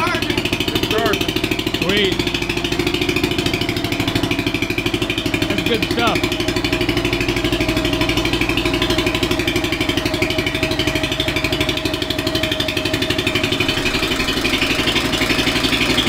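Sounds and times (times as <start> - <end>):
single-cylinder engine idling: 0.0 - 16.0.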